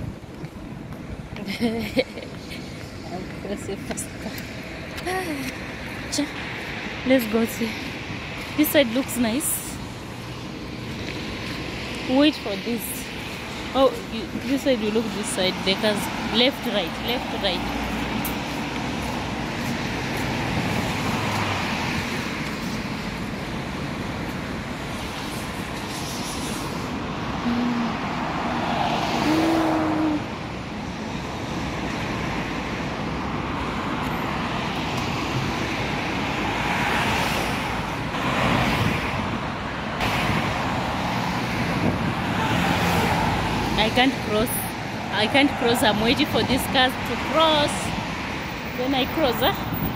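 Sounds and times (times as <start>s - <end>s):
cars passing: 0.0s - 49.9s.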